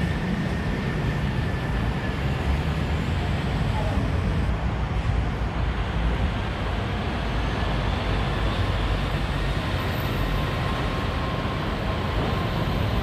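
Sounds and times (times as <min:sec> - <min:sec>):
monorail train rumble: 0:00.0 - 0:13.0.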